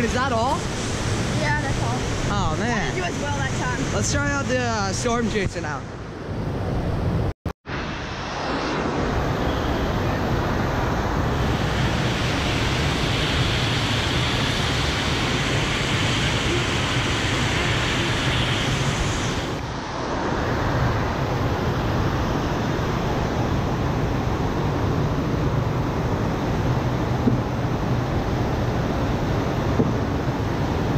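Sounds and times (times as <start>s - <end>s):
loud rush of water: 0.0s - 5.7s, 7.7s - 30.9s.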